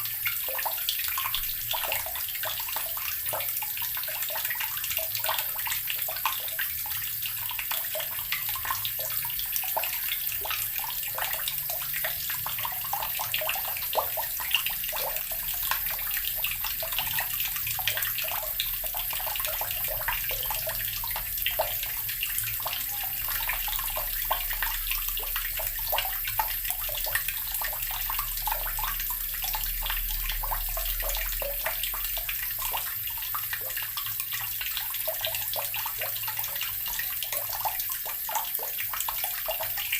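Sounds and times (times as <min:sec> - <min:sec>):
water running from a tap: 0:00.0 - 0:39.9
water splashing into a basin: 0:00.0 - 0:39.9.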